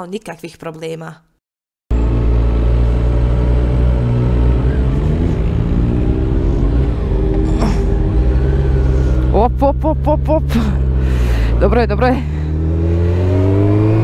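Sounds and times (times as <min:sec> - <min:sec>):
motorcycle engine under load: 0:01.9 - 0:14.0.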